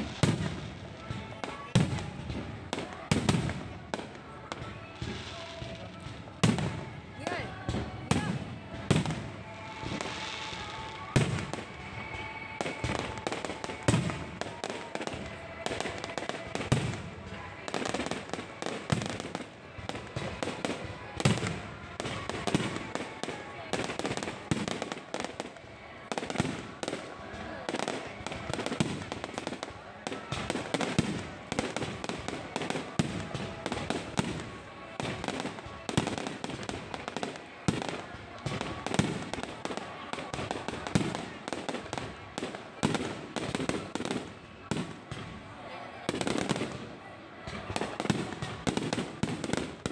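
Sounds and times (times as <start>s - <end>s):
fireworks sharp bangs: 0.0s - 45.4s
fireworks crackling pops: 0.0s - 49.9s.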